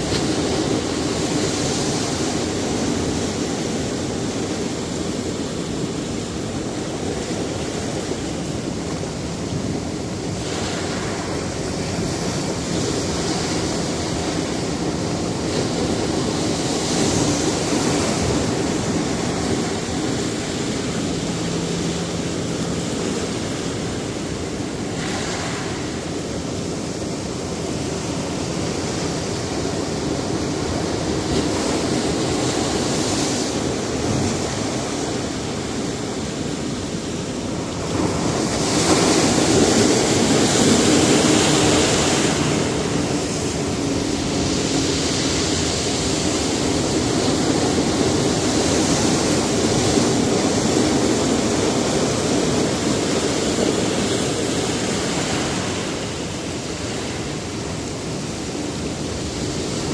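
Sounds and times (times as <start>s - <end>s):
waves breaking on rocks: 0.0s - 59.9s.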